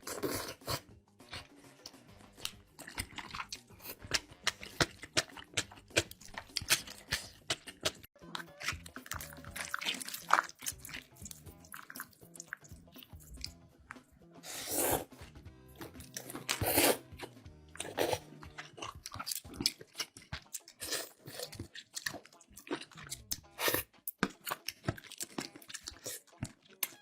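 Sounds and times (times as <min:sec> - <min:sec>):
soft background music: 0:00.0 - 0:27.0
crunchy food chewing: 0:02.3 - 0:13.6, 0:15.8 - 0:27.0.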